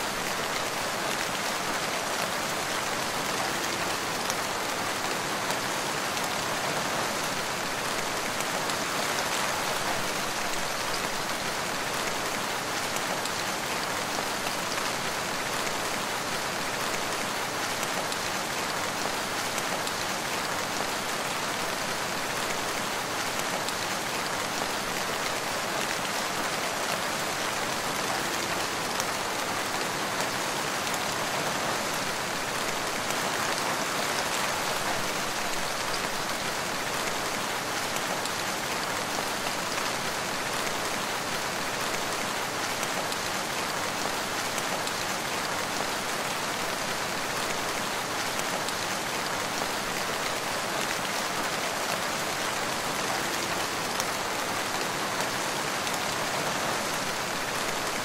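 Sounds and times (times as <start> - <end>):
rain falling through forest: 0.0 - 58.0.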